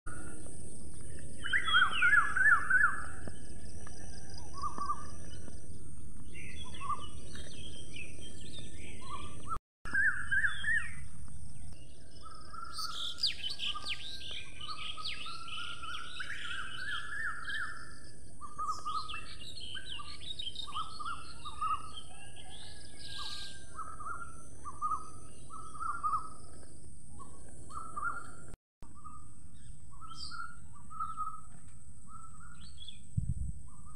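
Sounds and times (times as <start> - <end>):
birds chirping and calling: 0.1 - 33.9.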